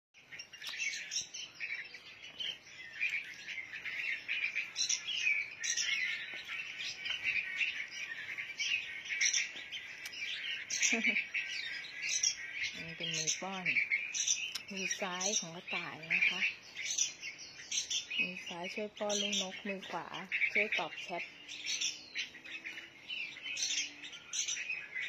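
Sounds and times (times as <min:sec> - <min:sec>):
baby birds begging chirps: 0:00.2 - 0:25.0.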